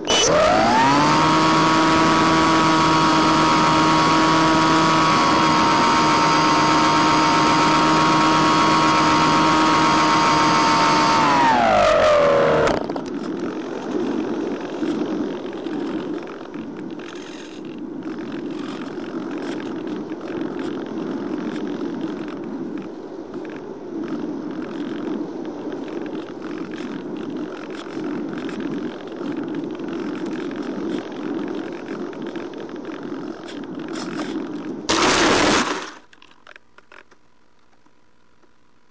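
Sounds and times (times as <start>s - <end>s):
plane landing in tall grass: 0.0s - 36.5s
faint steady hum: 0.0s - 38.9s.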